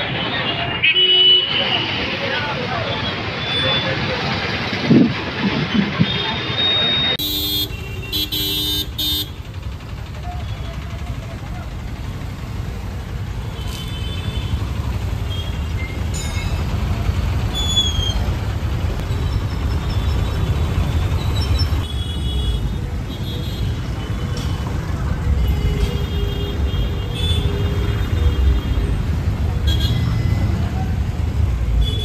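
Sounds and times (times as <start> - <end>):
vehicle engines rumbling: 0.0 - 32.0
motorbikes and cars passing: 1.6 - 32.0.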